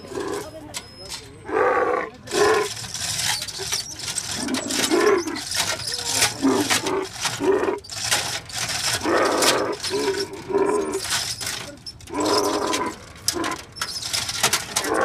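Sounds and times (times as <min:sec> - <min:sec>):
camel calling: 0:01.4 - 0:08.0, 0:08.9 - 0:15.0.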